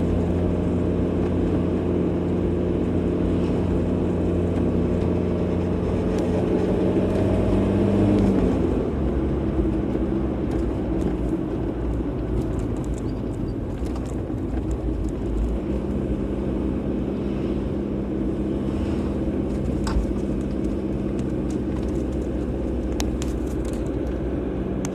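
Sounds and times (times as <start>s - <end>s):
car engine hum: 0.0s - 24.9s
road rumble: 0.0s - 24.9s.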